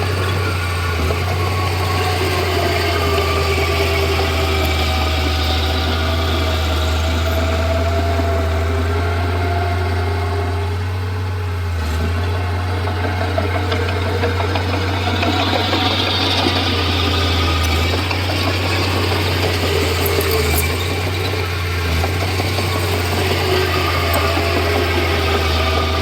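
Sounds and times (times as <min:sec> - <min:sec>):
bulldozer diesel engine: 0:00.0 - 0:26.0.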